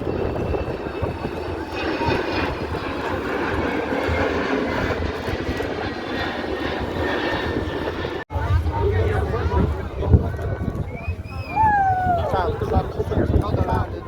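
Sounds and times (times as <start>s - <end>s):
airplane engine noise: 0.0s - 14.0s.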